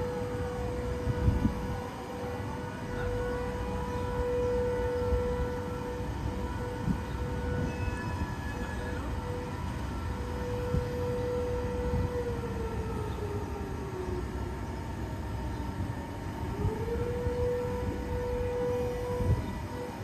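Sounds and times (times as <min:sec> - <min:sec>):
warning siren: 0:00.0 - 0:20.0.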